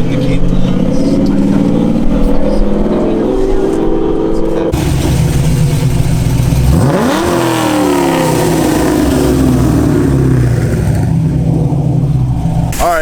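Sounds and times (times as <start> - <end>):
car engine revving: 0.0 - 13.0
heavy low rumble: 0.0 - 13.0.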